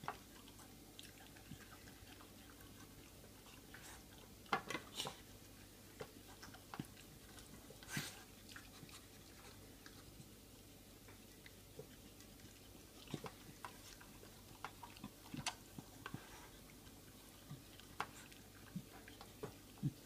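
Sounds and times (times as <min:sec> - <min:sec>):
dog chewing food: 0:00.0 - 0:20.0.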